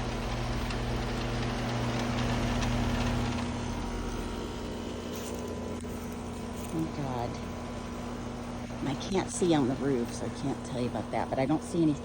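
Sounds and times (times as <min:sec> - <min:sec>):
air conditioner hum: 0:00.0 - 0:12.0.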